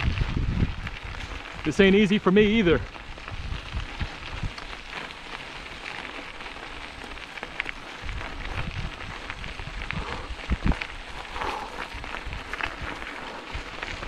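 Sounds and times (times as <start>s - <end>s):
bike tyres crackling over grit: 0.0s - 14.0s.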